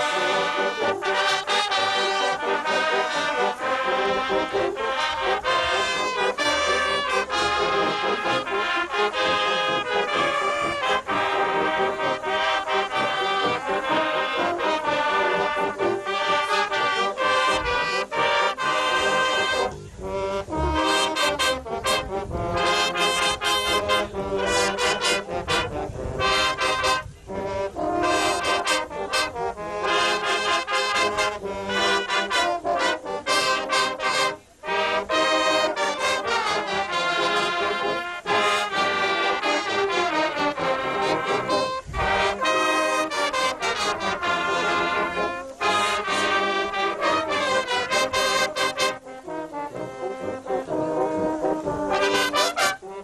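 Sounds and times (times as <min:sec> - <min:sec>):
brass band playing: 0:00.0 - 0:53.0.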